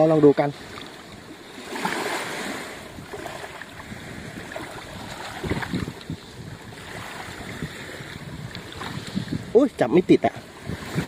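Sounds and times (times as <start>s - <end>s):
surf washing up beach: 0.0s - 11.0s
wind on microphone: 0.0s - 11.0s.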